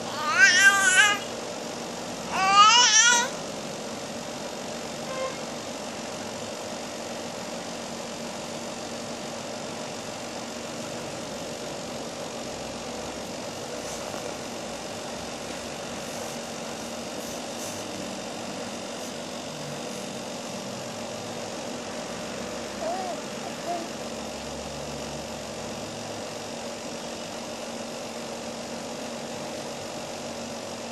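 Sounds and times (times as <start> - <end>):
background hum and hiss: 0.0 - 30.9.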